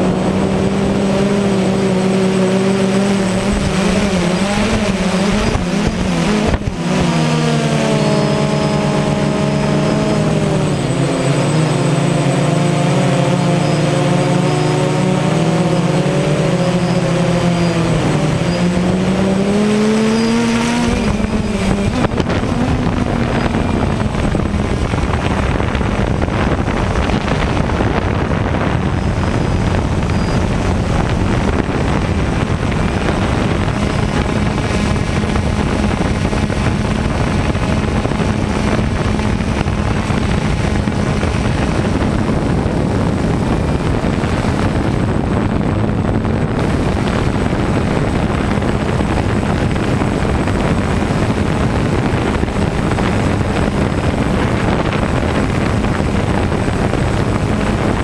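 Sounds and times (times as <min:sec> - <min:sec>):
drone motors and propellers buzzing: 0:00.0 - 0:58.0.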